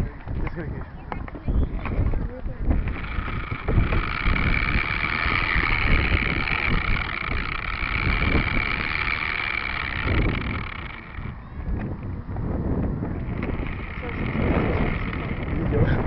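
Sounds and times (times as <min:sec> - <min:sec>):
quadcopter propellers buzzing: 0:00.0 - 0:16.0.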